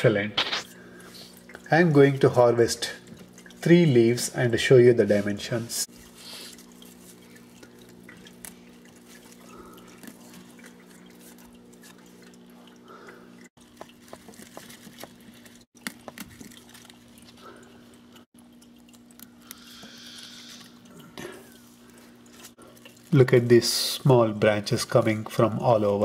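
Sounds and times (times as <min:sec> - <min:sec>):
water pump hum: 0:00.0 - 0:26.0
water trickling: 0:00.8 - 0:26.0.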